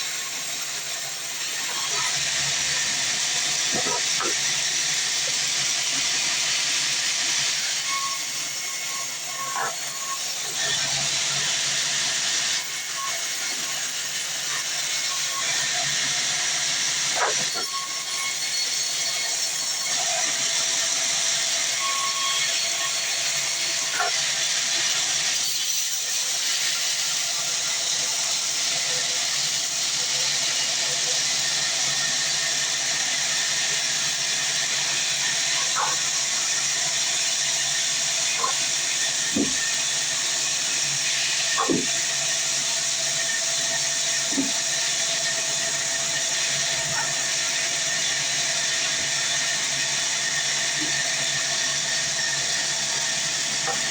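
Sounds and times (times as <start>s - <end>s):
saw running with high hiss: 0.0s - 53.9s.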